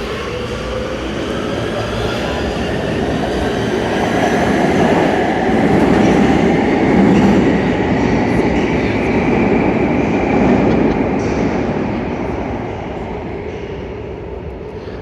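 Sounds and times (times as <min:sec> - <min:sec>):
subway train rolling over switches: 0:00.0 - 0:15.0.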